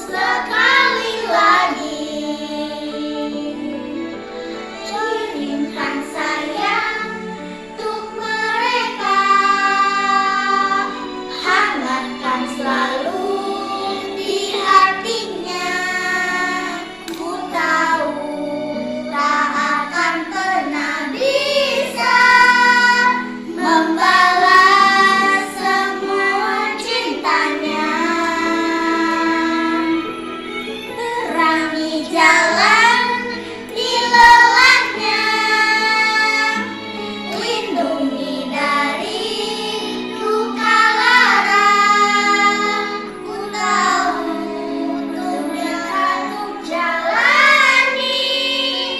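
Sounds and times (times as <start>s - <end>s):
child singing: 0.0s - 3.5s, 7.8s - 30.1s, 31.0s - 36.6s, 37.3s - 48.9s.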